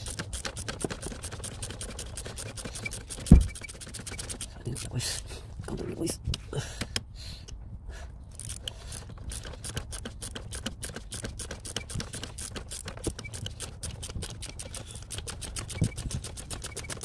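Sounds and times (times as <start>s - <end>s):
ratchet wrench clicking: 0.0s - 5.0s, 8.3s - 17.0s.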